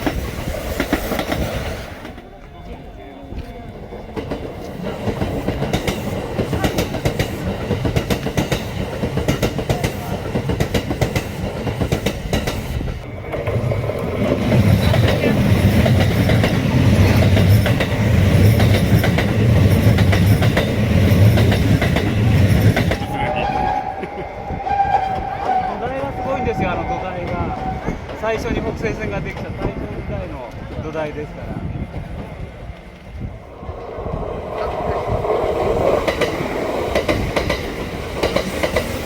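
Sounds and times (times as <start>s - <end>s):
electric train running: 0.0s - 39.0s.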